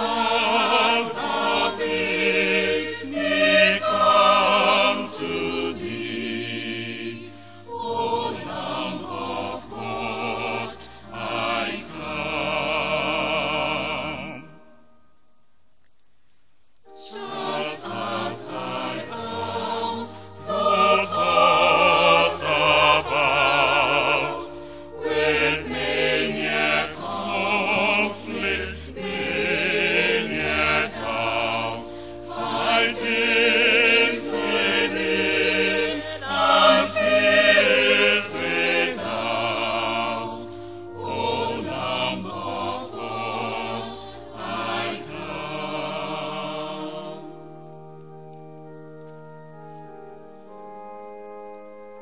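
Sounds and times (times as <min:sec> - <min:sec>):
choir singing a hymn: 0:00.0 - 0:14.8, 0:16.9 - 0:47.9.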